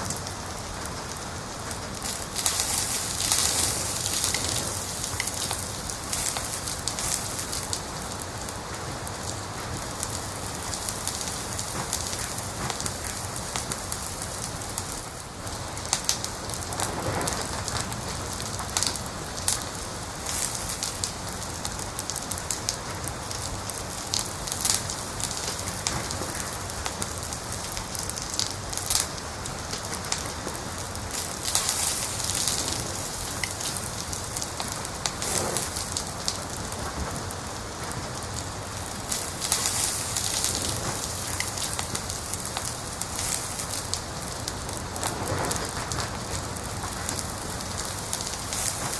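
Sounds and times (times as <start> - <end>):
fire hissing flare-ups: 0.0 - 48.9
wood fire crackling: 0.0 - 48.9.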